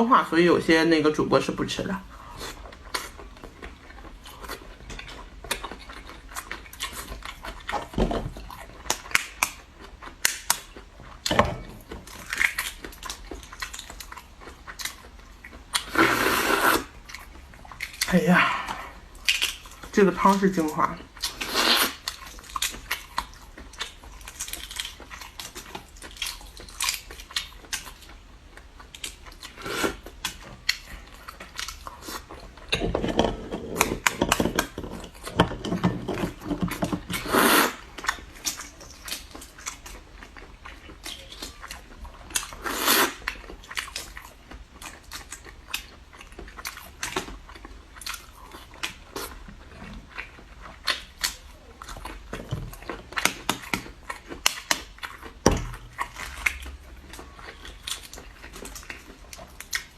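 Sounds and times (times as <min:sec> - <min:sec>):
person chewing and biting: 0:02.2 - 0:19.9, 0:21.1 - 0:59.9.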